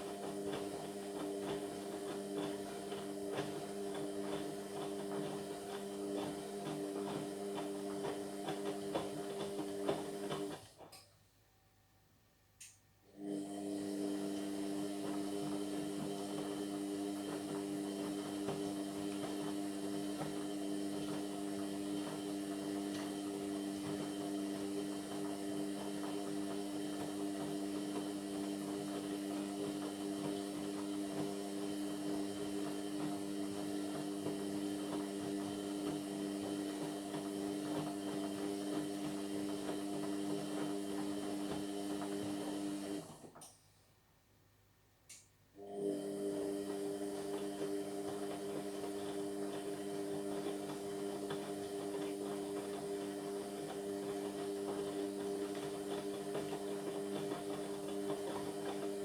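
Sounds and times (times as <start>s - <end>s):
washing machine drain pump hum: 0.0s - 10.8s, 13.1s - 43.5s, 45.6s - 59.0s.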